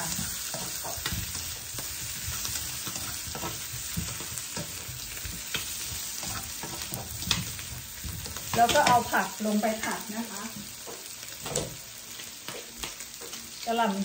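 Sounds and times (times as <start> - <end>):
spatula scraping and tapping pan: 0.0 - 13.5
potatoes sizzling in butter: 0.0 - 14.0.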